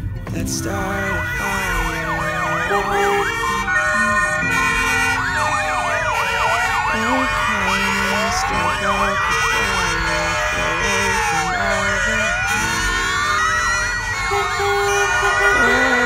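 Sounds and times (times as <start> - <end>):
emergency sirens yelping: 0.0 - 16.0
sirens wailing: 0.0 - 16.0.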